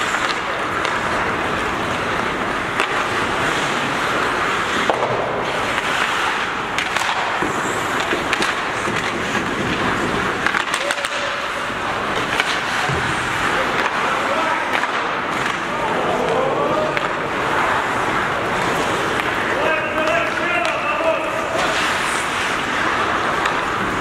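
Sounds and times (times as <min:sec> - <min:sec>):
hockey sticks and puck clacking: 0:00.0 - 0:24.0
skate blades scraping ice: 0:00.0 - 0:24.0.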